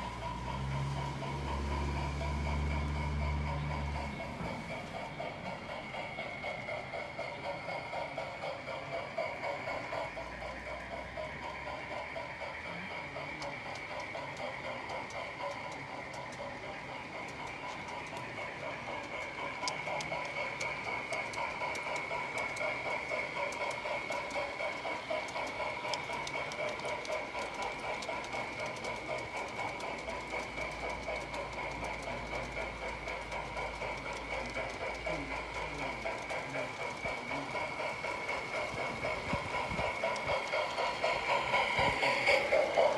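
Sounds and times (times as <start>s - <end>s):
model train whine: 0.0s - 42.9s
wheels clicking over rails: 0.0s - 42.9s.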